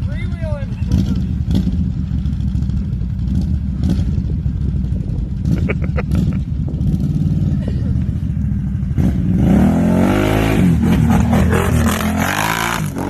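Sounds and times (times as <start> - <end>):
engines rumbling: 0.0 - 13.0.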